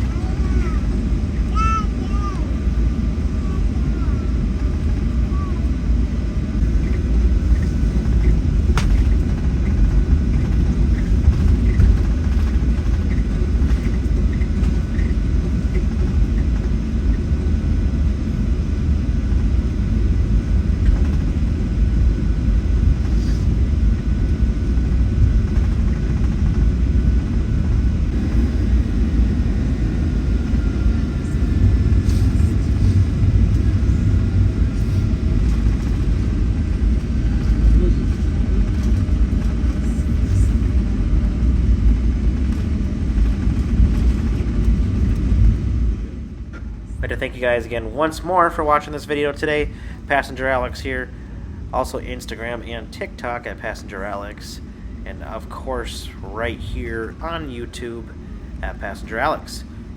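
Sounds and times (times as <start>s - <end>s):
faint whines: 0.0s - 52.8s
aircraft cabin rumble: 0.0s - 59.9s.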